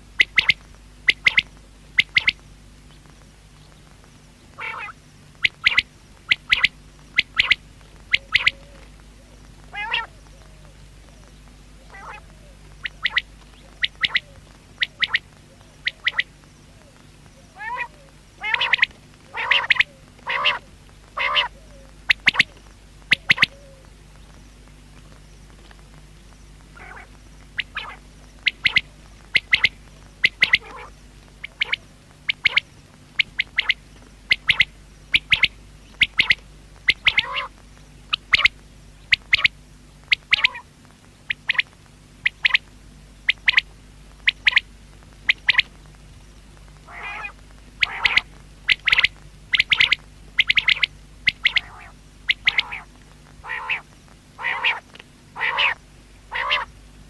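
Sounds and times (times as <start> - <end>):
quail calling: 0.2 - 2.4, 4.5 - 23.9, 26.7 - 40.7, 41.3 - 45.7, 46.8 - 56.7.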